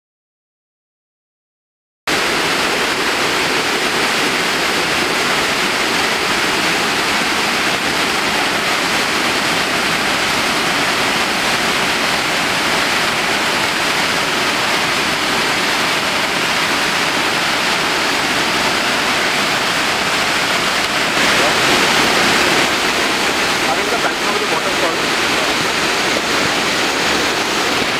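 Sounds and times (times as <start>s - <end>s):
waterfall rushing: 2.1s - 27.9s.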